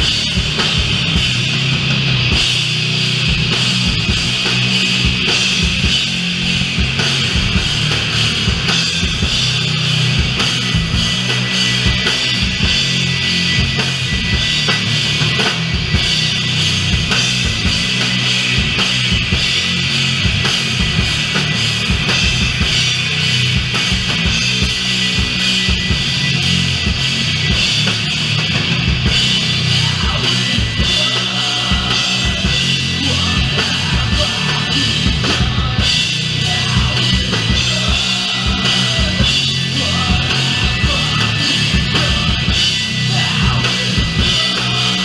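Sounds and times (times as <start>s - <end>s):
doom metal band playing live: 0.0s - 45.0s
heavy drum kit hits: 0.0s - 45.0s.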